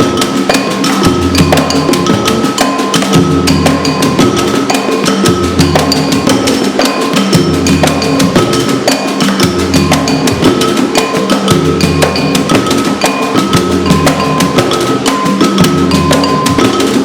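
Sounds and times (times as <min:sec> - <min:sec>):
hand drum strokes: 0:00.0 - 0:17.0.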